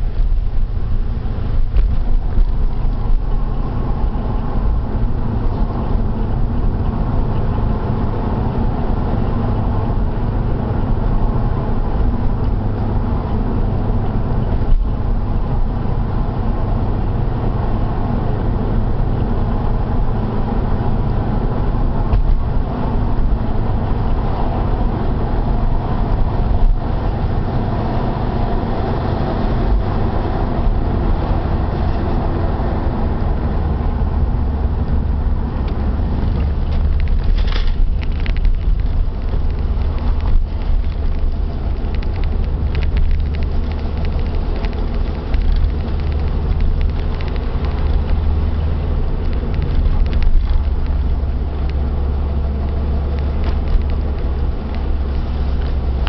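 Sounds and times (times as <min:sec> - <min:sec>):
road and tyre rumble: 0:00.0 - 0:56.0.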